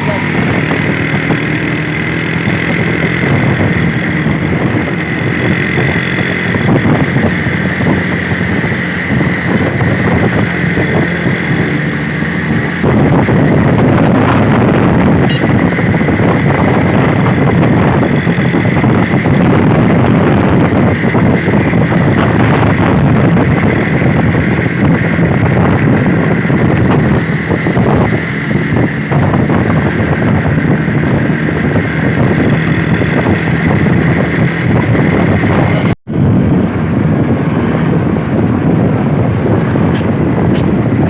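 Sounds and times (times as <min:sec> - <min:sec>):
road noise: 0:00.0 - 0:41.0
truck engine running: 0:00.0 - 0:41.0.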